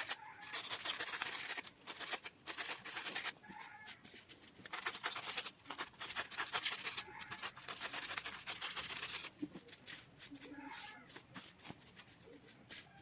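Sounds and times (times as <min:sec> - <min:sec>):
rubbing and cutting paper: 0:00.0 - 0:13.0.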